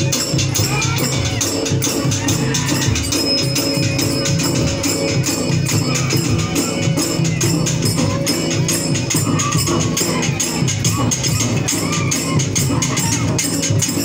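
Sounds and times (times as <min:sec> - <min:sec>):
bright metallic jingle: 0:00.0 - 0:14.0
dhol drums beaten: 0:00.0 - 0:14.0.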